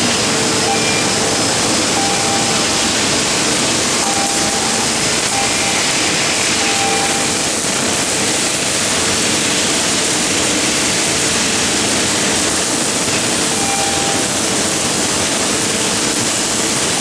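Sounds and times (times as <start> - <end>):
welding arc hissing and crackling: 0.0 - 17.0.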